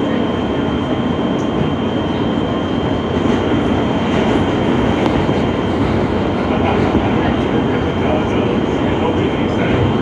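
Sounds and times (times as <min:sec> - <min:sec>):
subway train wheels rumbling on rail: 0:00.0 - 0:10.0.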